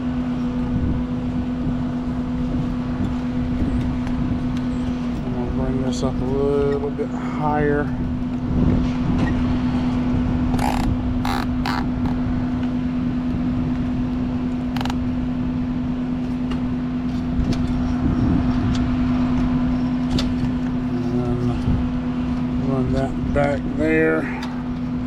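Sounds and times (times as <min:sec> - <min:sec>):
heat pump outdoor unit humming: 0:00.0 - 0:25.0.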